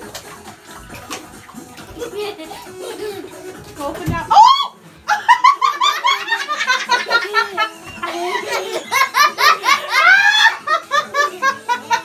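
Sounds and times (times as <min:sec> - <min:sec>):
girls giggling: 0:01.7 - 0:12.0.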